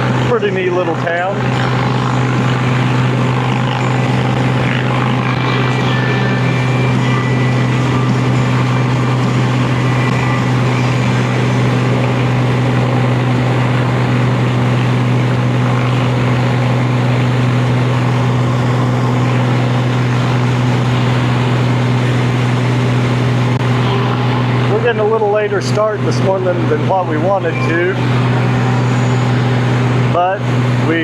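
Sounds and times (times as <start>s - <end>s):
motorcycle engine drone: 0.0s - 31.0s.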